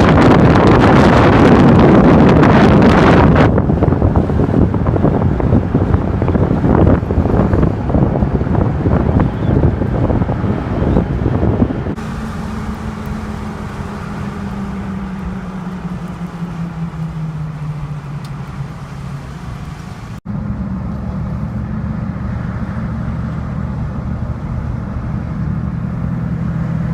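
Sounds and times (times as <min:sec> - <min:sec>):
pickup truck engine running: 0:00.0 - 0:26.9.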